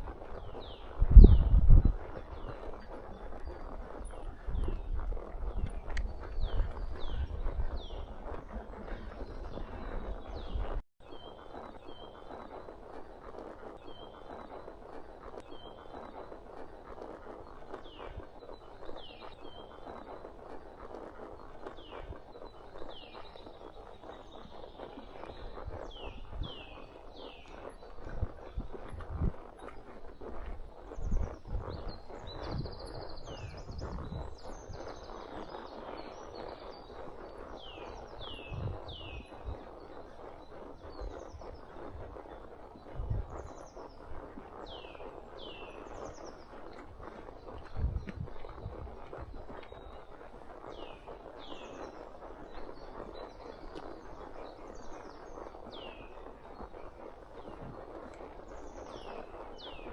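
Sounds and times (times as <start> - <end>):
horse hoofbeats thudding: 0.0 - 59.9
songbirds singing: 0.0 - 59.9
steady rustling: 11.5 - 59.9.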